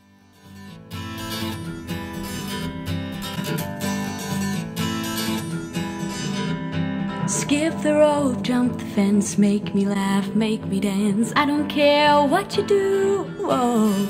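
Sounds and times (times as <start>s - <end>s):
acoustic guitar song with bass: 0.0s - 14.0s.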